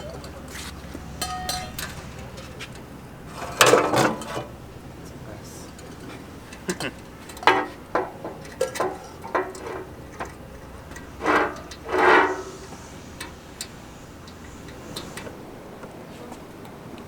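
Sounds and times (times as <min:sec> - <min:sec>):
ringing metal clanks: 0:00.0 - 0:15.6.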